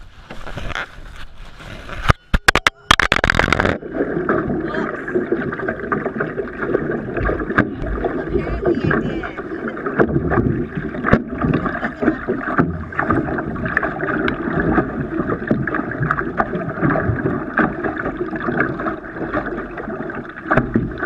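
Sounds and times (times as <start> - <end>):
water splashing around canoe: 0.0 - 21.0.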